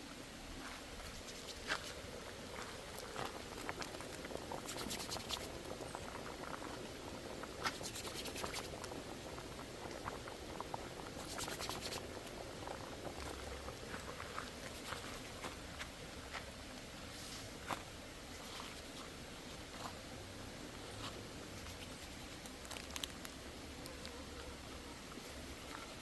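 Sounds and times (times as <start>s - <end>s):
stew bubbling in a pot: 1.0s - 26.0s.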